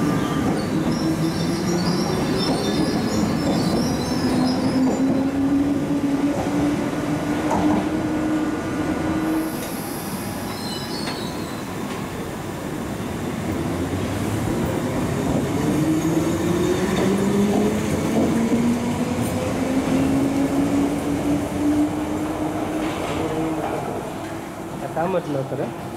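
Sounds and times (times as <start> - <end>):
train wheels on rails: 0.0 - 25.9.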